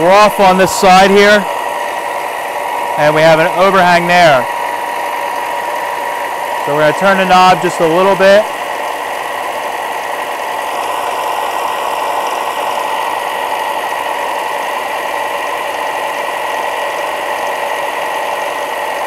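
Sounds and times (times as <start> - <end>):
belt sander motor hum: 0.0 - 19.0.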